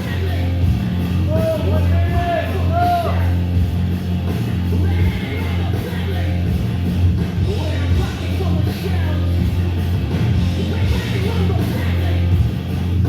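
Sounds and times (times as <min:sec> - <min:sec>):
heavy bass: 0:00.0 - 0:13.0
rock music with singing: 0:00.0 - 0:13.0.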